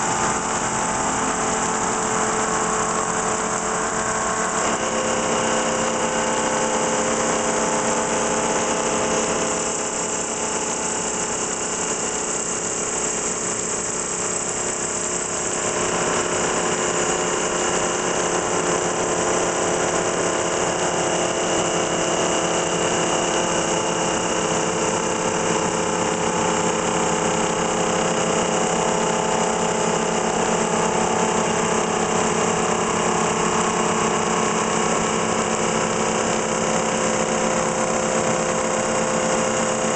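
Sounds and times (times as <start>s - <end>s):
machine hum with held tones: 0.0s - 39.9s.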